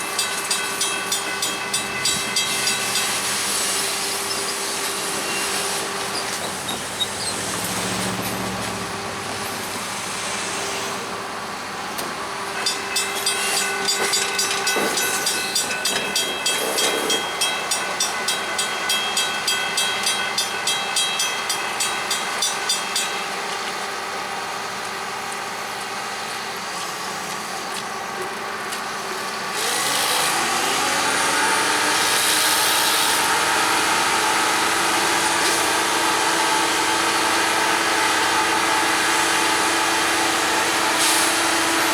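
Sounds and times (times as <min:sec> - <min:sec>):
railroad crossing bell ringing: 0:00.0 - 0:09.8, 0:11.4 - 0:26.4, 0:29.5 - 0:41.9
rushing hiss of rail machinery: 0:00.0 - 0:41.9.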